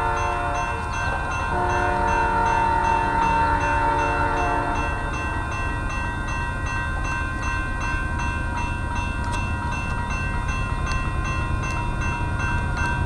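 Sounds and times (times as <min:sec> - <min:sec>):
railroad crossing bell ringing: 0:00.0 - 0:13.0
train rumbling: 0:00.0 - 0:13.0.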